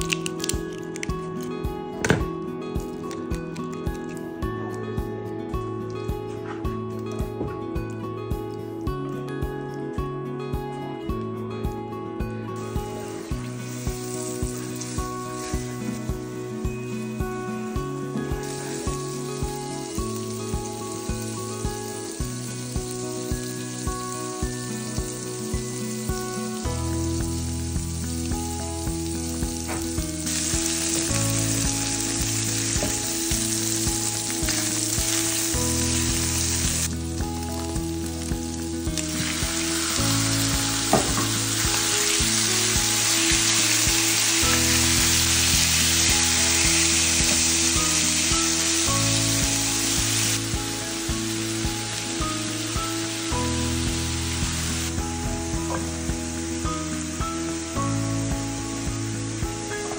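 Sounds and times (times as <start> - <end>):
bacon sizzling in a frying pan: 0.0 - 1.4, 12.6 - 59.9
background music with steady beat: 0.0 - 59.9.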